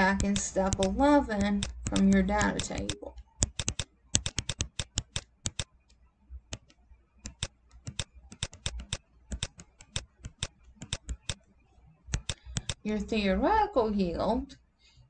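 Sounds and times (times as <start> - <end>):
stylus tapping on tablet screen: 0.0 - 11.5, 12.1 - 12.9.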